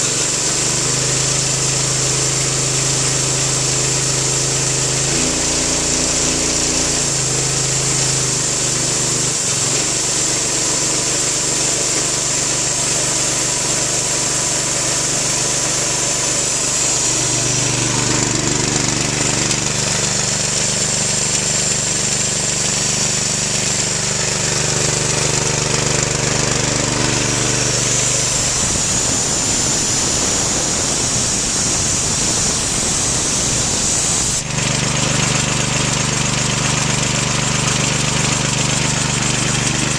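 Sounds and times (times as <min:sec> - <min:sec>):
rapid mechanical clatter: 0:00.0 - 0:39.9
small engine running: 0:00.0 - 0:39.9.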